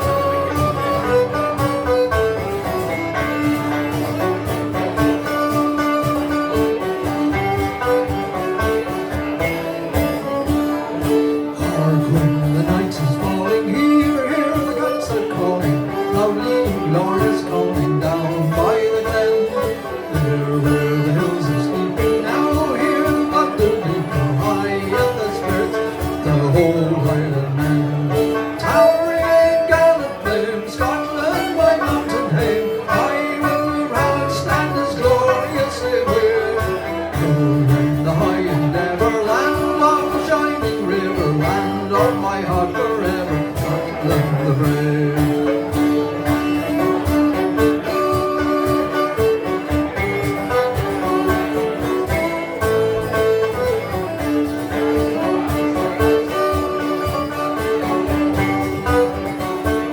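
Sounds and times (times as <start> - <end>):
banjo playing: 0.0 - 59.9
twelve-string guitar strumming: 0.0 - 59.9.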